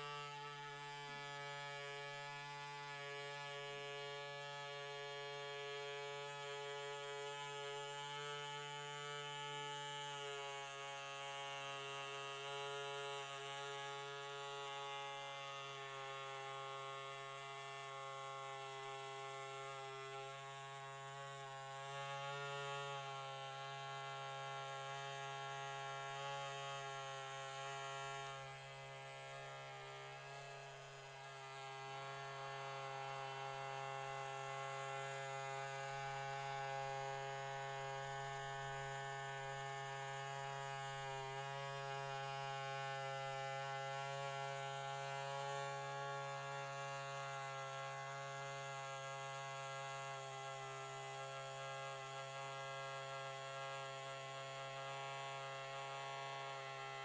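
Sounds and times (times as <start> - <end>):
electric scalp massager buzzing: 0.0 - 57.0.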